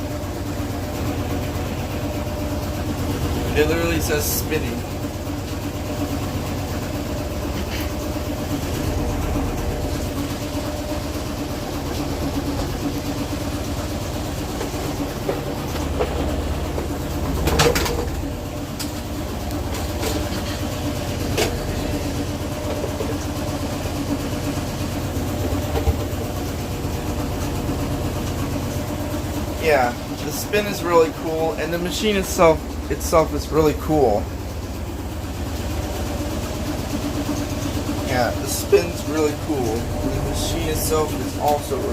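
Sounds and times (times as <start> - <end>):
washing machine spinning: 0.0 - 41.9.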